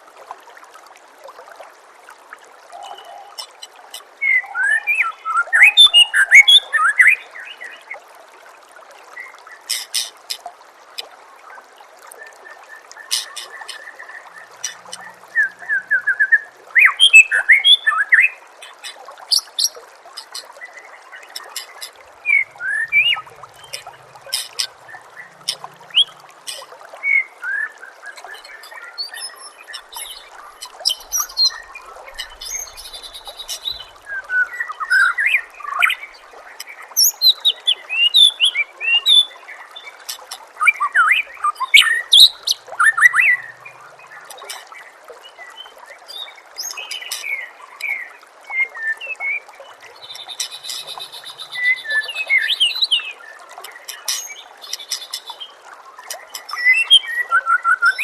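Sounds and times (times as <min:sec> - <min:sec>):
trickle of running water: 0:00.0 - 0:58.0.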